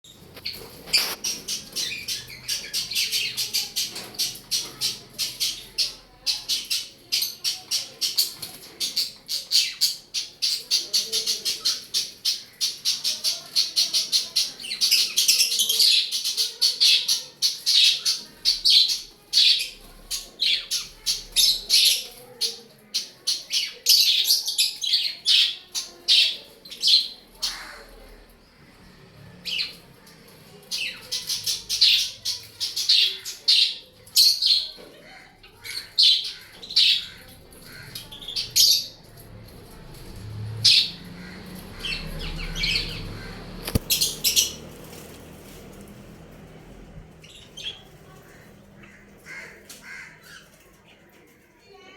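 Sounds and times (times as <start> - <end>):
birds chirping: 0.0 - 51.8.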